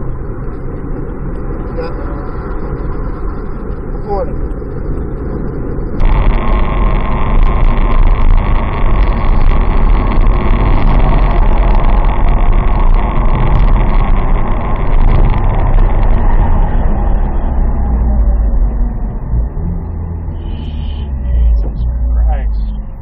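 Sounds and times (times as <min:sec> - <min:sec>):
car road and wind noise: 0:00.0 - 0:23.0.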